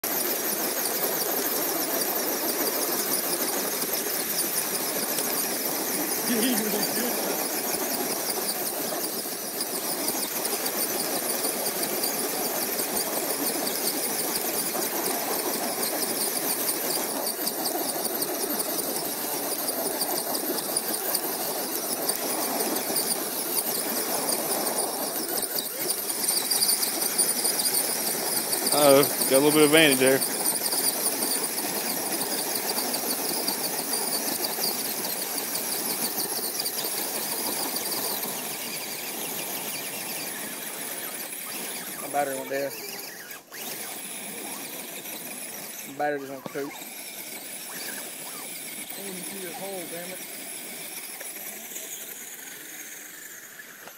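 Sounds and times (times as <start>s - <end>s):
toy car motors whining: 0.0s - 53.9s.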